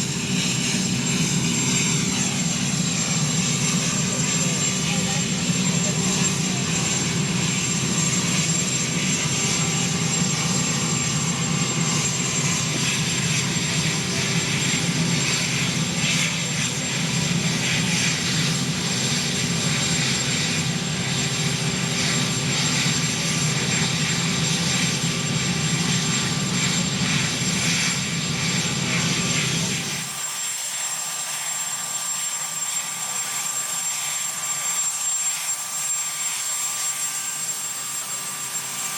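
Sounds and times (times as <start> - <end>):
helicopter droning: 0.0 - 38.9.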